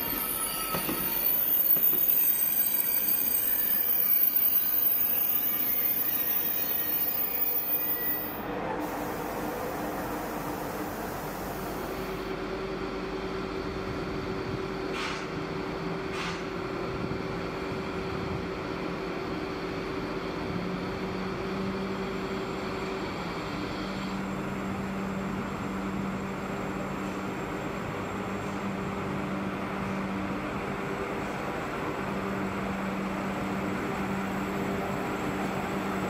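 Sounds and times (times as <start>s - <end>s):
train humming: 0.0s - 36.0s.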